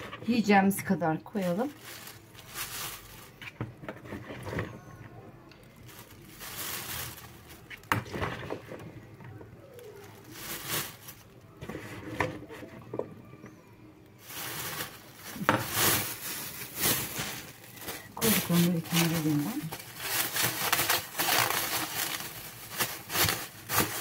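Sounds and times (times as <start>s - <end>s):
plastic bag crinkling: 0.0s - 4.9s, 5.6s - 13.1s, 14.2s - 24.0s.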